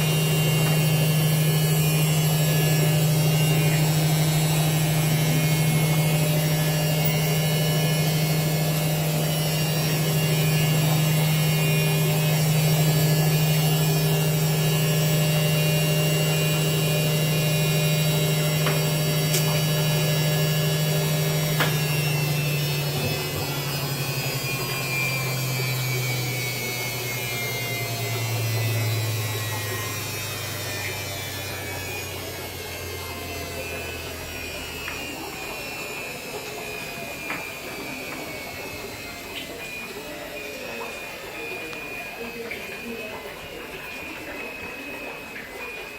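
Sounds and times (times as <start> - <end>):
washing machine running: 0.0 - 45.9.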